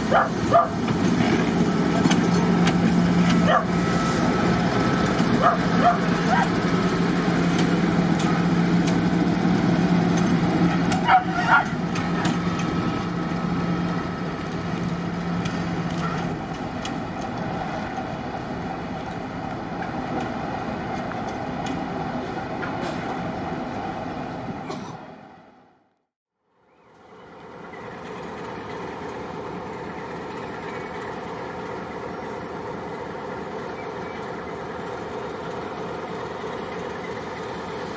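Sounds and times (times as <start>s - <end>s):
diesel locomotive humming: 0.0s - 37.9s.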